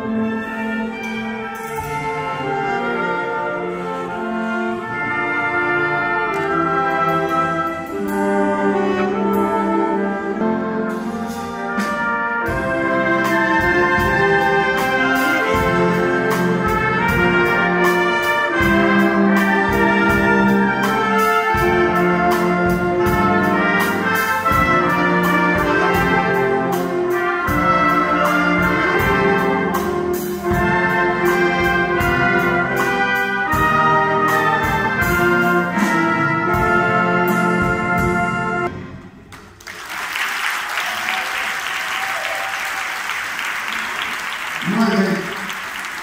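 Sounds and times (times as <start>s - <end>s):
wind band playing: 0.0s - 46.0s.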